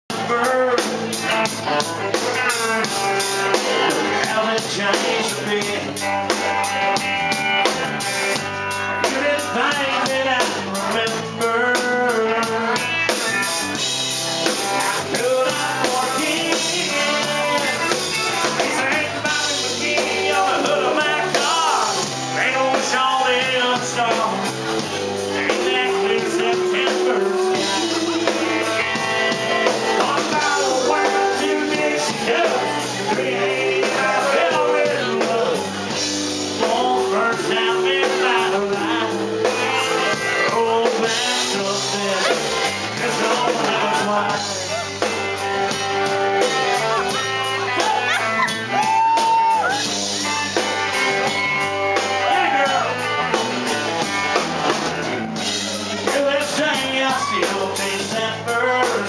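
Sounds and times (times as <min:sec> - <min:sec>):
man singing: 0:00.1 - 0:07.7, 0:08.3 - 0:45.8, 0:52.0 - 0:53.8, 0:55.4 - 0:59.0
drum kit beat: 0:00.1 - 0:59.0
electric bass guitar: 0:00.1 - 0:59.0
electric guitar: 0:00.1 - 0:59.0.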